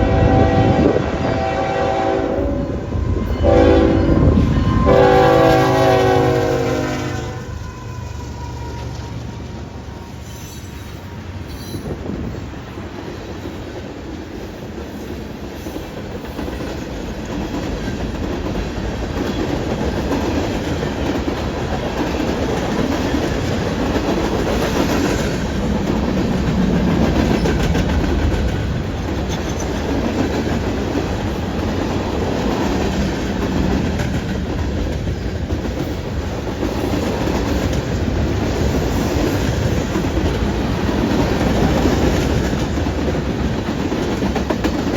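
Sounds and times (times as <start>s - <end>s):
freight train wheels clattering: 7.4s - 44.9s.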